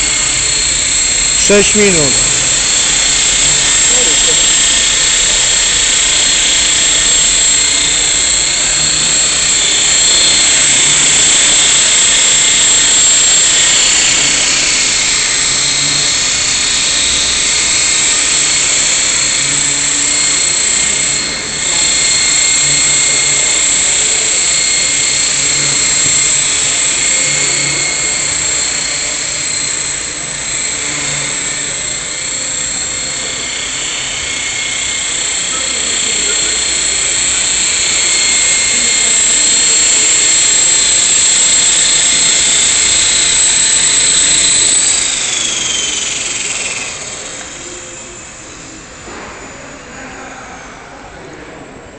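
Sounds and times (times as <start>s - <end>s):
rotor noise: 0.0s - 50.9s
rc helicopter motor whine: 0.0s - 51.0s.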